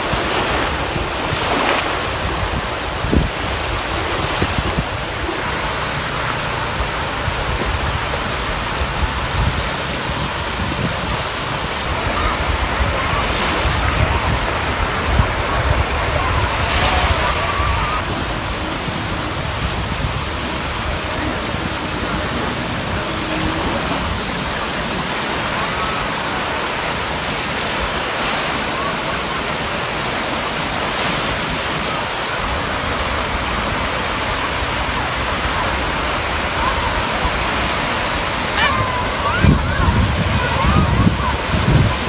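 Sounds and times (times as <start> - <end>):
wind buffeting microphone: 0.0 - 27.4, 31.1 - 42.0
small waves washing onto sand: 0.0 - 42.0.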